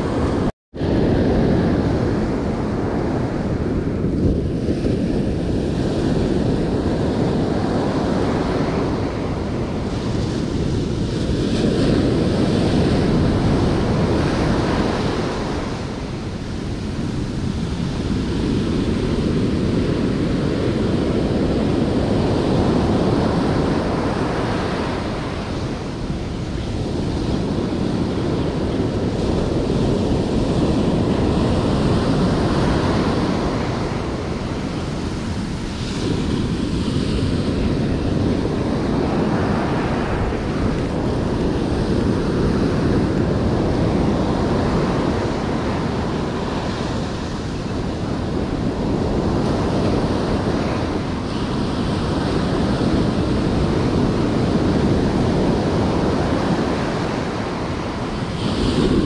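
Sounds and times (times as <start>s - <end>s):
ocean surf breaking on beach: 0.0s - 59.0s
wind buffeting microphone: 0.0s - 59.0s.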